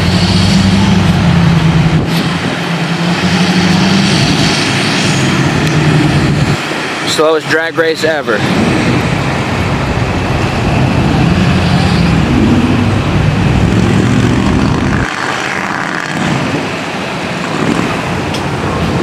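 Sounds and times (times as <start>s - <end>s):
quiet vehicle noise: 0.0s - 19.0s
truck engines rumbling: 0.0s - 19.0s.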